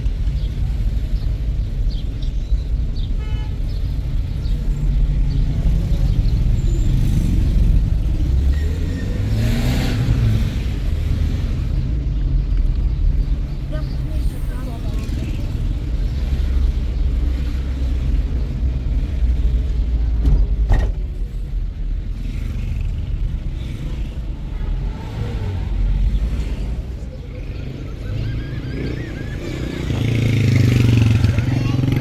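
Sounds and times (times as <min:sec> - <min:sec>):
moving vehicle rumble: 0:00.0 - 0:32.0.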